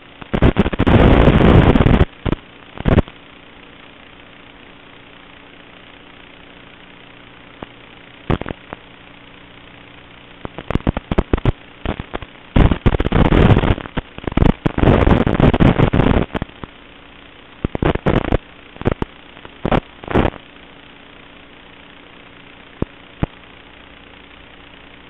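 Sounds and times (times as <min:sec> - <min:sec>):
crackling static and pops: 0:00.0 - 0:25.0
steady low buzz: 0:00.0 - 0:25.0.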